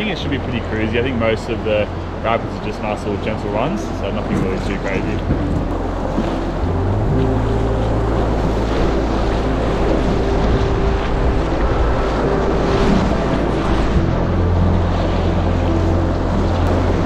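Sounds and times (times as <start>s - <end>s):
paddle strokes splashing: 0.0s - 17.0s
rushing whitewater: 0.0s - 17.0s.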